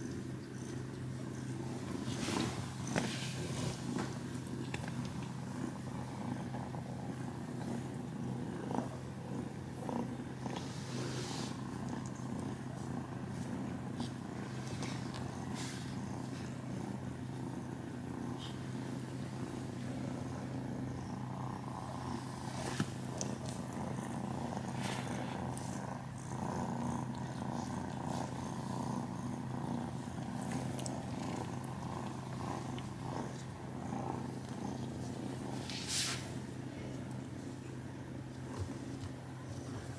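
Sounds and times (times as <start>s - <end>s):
faint clicks and rustles: 0.0s - 17.4s, 21.6s - 39.9s
cats purring: 0.0s - 39.9s.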